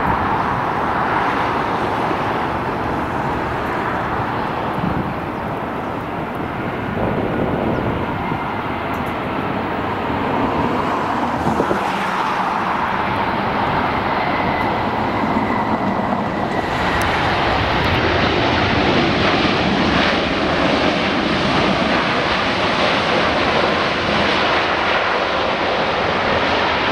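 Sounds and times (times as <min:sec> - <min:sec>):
jet engine roar: 0:00.0 - 0:26.9.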